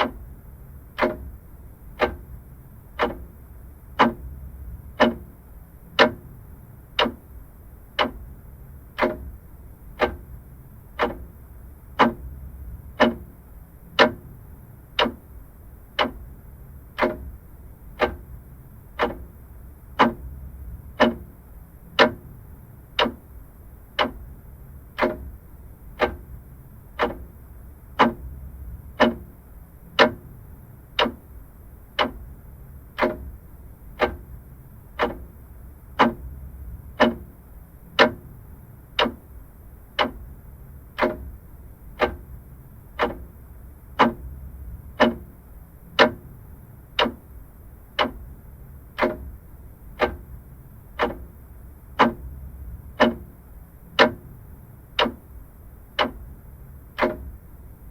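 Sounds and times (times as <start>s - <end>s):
faint low hum: 0.0s - 57.9s
mechanical clock ticking: 0.0s - 57.9s.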